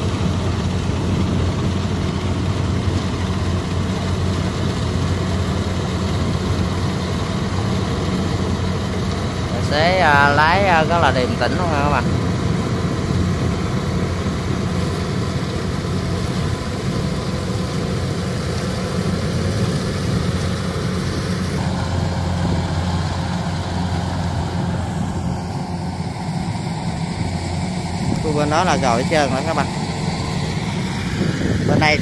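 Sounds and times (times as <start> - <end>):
diesel engine humming under load: 0.0 - 32.0.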